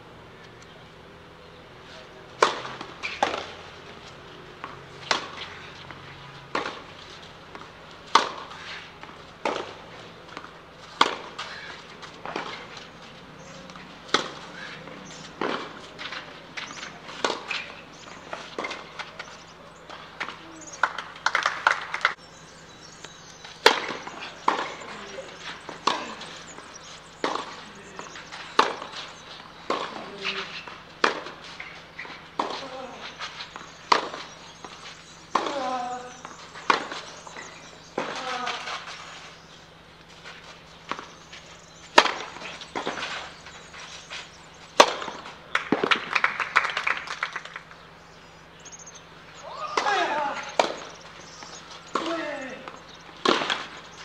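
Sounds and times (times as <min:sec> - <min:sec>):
tennis ball struck by rackets: 0:02.3 - 0:22.1, 0:23.1 - 0:39.1, 0:40.0 - 0:46.3, 0:49.6 - 0:54.0.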